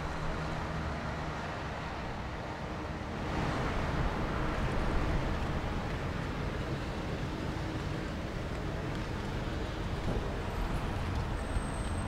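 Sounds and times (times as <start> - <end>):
outdoor street ambience: 0.0 - 12.0.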